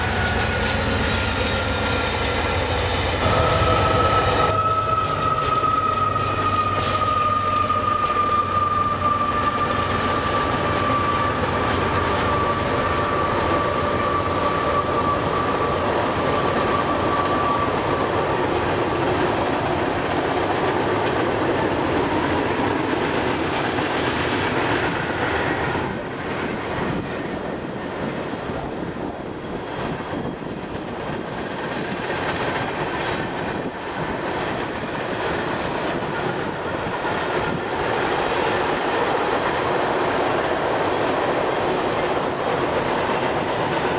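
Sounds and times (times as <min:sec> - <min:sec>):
locomotive whine: 0:00.0 - 0:43.9
train wheels running over rails: 0:00.0 - 0:43.9.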